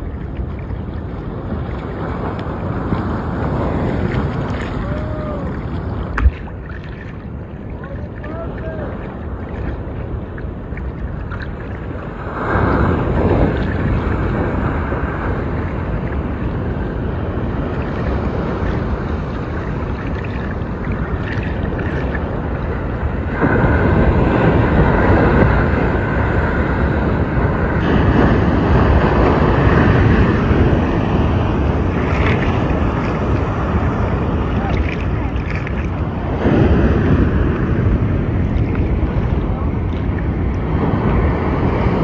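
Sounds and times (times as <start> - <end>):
ocean water: 0.0 - 42.0
wind on microphone: 0.0 - 42.0.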